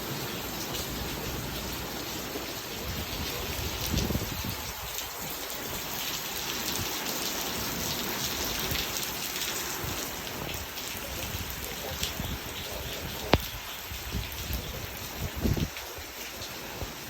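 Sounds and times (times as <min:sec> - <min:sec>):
rain falling: 0:00.0 - 0:17.0
raindrops hitting a surface: 0:00.0 - 0:17.0.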